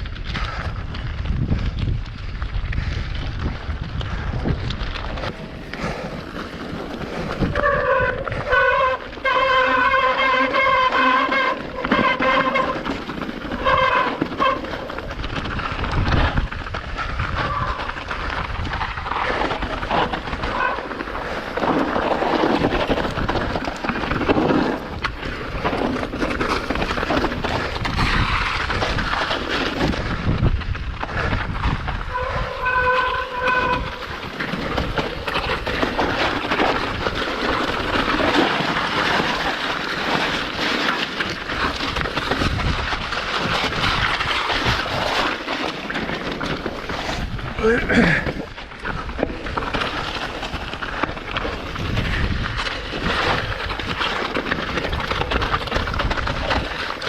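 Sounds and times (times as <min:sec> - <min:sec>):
bike rattling over rocks: 0:00.0 - 0:57.0.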